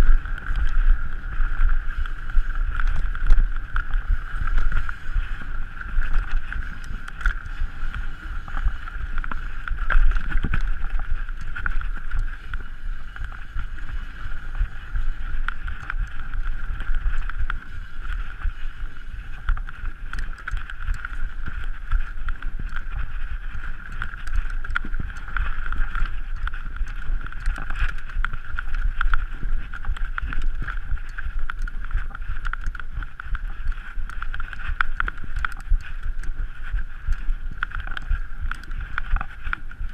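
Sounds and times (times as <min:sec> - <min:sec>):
bike rattling: 0:00.0 - 0:39.9
wind on microphone: 0:00.0 - 0:39.9.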